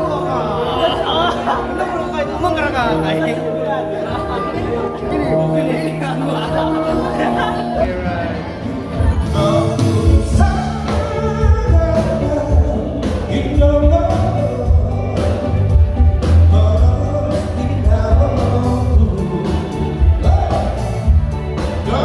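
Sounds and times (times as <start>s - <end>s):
amplified music with heavy bass: 2.7s - 22.0s
person singing: 3.5s - 22.0s.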